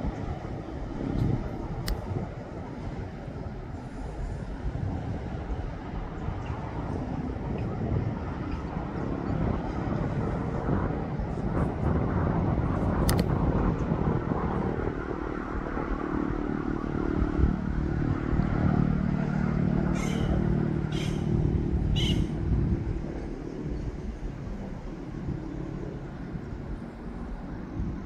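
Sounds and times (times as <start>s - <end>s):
road noise: 0.0s - 28.0s
vehicle engine running: 0.0s - 28.0s.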